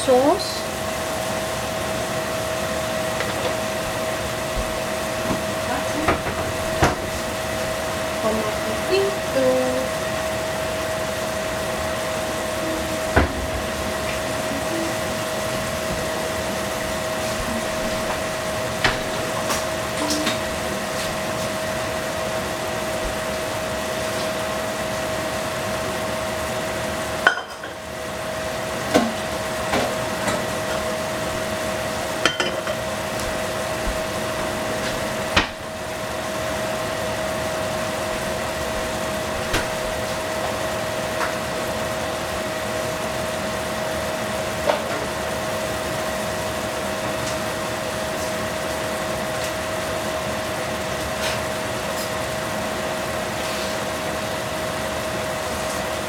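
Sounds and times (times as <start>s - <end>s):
steady hum: 0.0s - 54.2s.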